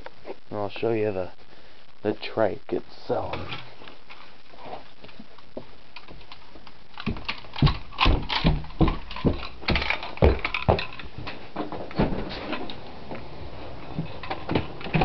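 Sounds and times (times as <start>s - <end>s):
footsteps: 0.0s - 0.5s, 3.2s - 15.0s.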